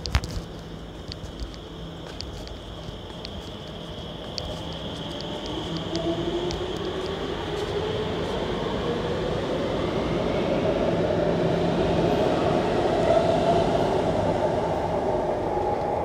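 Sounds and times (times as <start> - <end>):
train running hum: 0.0 - 16.0
metro train motors whining: 0.4 - 16.0.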